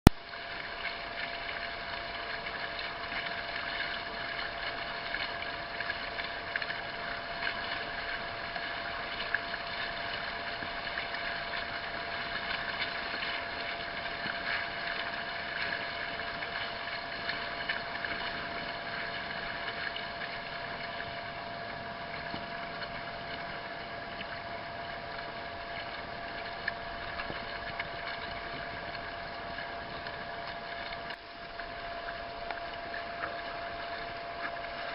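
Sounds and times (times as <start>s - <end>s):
motor humming steadily: 0.1s - 34.9s.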